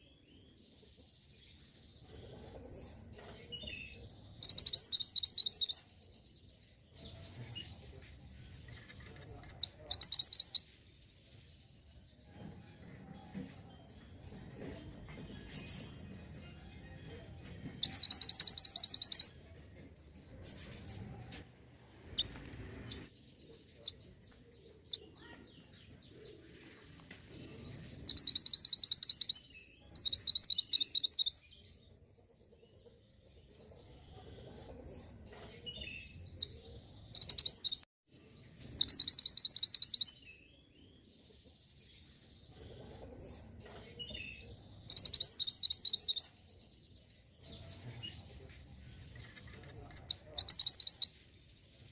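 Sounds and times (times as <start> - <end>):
soft bird chirps: 0.0 - 12.5, 17.7 - 19.6, 20.2 - 31.8, 32.7 - 51.9
songbird singing: 0.0 - 51.9.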